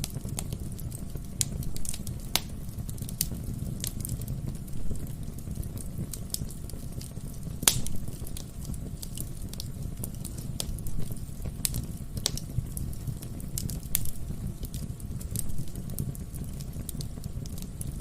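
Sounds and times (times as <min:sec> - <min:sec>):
fire rumbling in a fireplace: 0:00.0 - 0:18.0
logs crackling and popping: 0:00.0 - 0:18.0.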